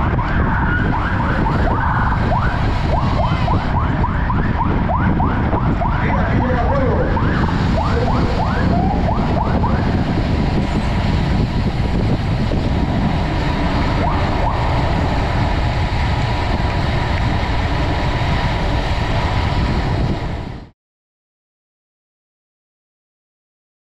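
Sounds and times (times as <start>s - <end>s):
wind rumble on microphone: 0.0s - 20.7s.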